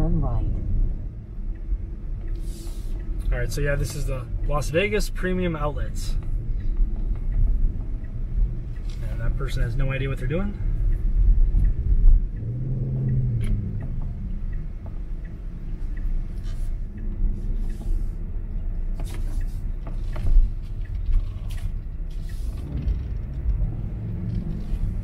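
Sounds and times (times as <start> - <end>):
road and tyre rumble: 0.0 - 25.0
faint regular ticking: 0.2 - 25.0.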